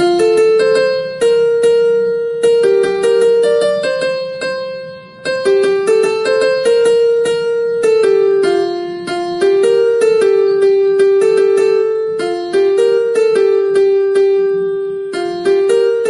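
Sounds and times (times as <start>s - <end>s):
slow keyboard ringtone melody: 0.0s - 16.0s.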